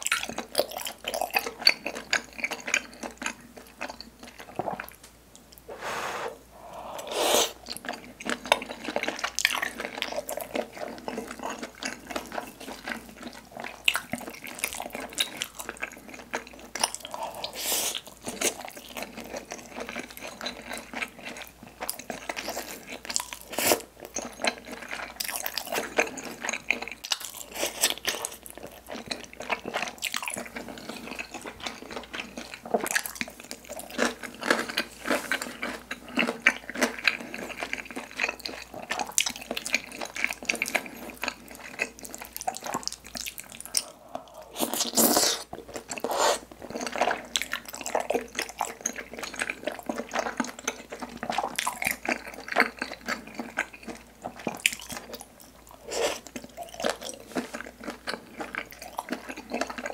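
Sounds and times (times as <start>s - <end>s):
food crunching: 7.0s - 59.9s
wet sticky chewing sounds: 7.0s - 59.9s.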